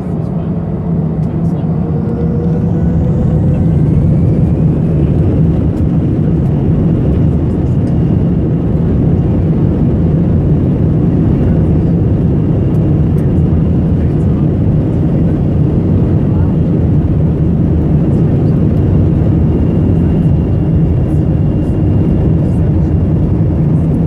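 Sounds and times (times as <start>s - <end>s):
faint engine whine: 0.0s - 24.0s
jet engines rumbling in cabin: 0.0s - 24.0s.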